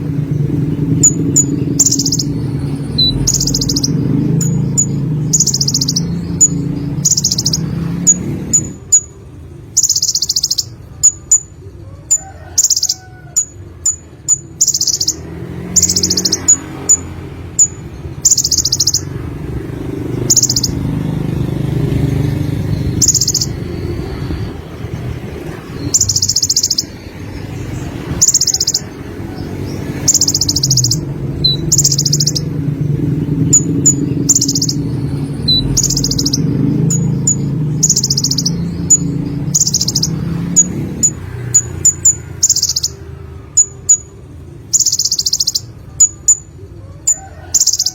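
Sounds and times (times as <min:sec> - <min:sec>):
bird singing fast trills: 0:00.0 - 0:47.9.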